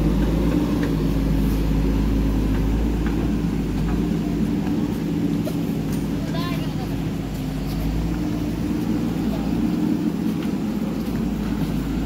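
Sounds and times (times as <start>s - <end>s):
truck engine under load: 0.0s - 12.0s.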